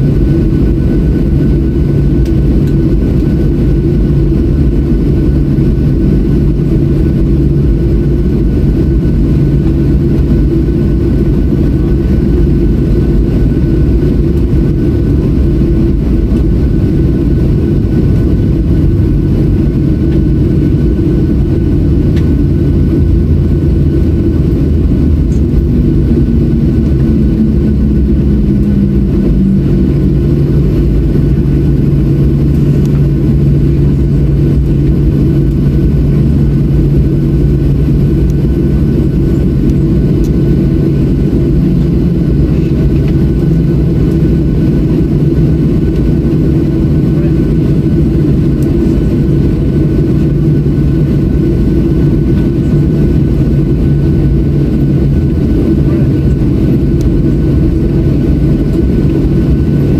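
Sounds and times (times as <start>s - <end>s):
jet engines humming in cabin: 0.0s - 59.9s.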